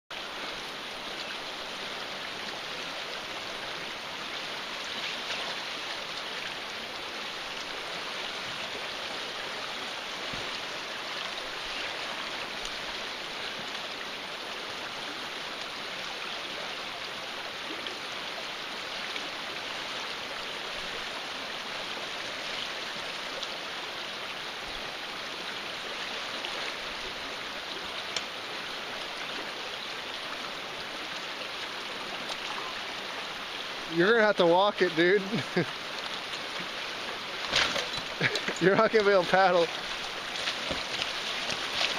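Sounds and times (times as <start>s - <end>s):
river current rushing: 0.1s - 41.9s.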